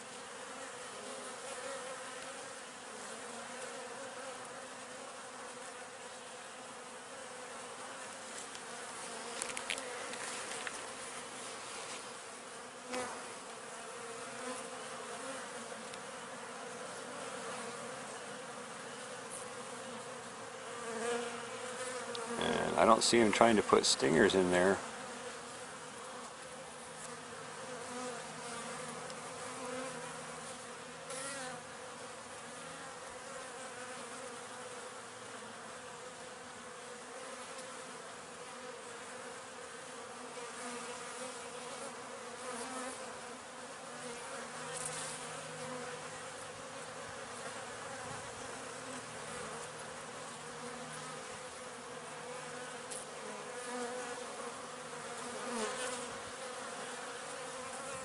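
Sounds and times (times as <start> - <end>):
bee colony buzzing: 0.0 - 58.0.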